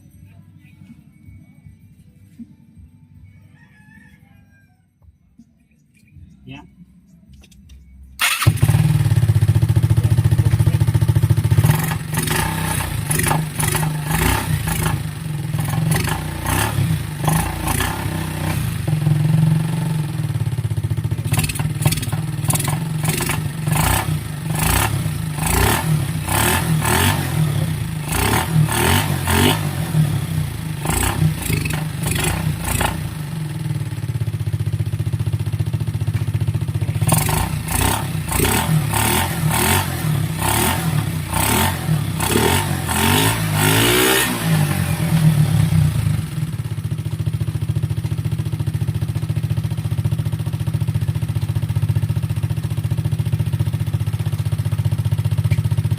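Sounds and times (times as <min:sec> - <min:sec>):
scooter engine idling: 0:08.2 - 0:55.9.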